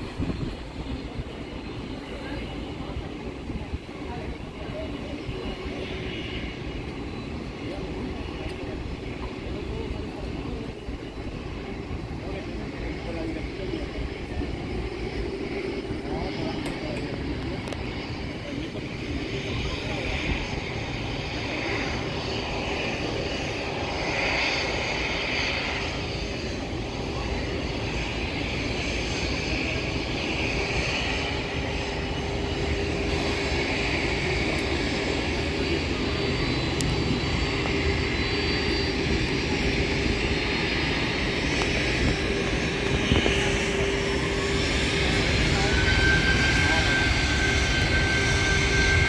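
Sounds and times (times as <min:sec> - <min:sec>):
jet engines whining: 0:00.0 - 0:49.0.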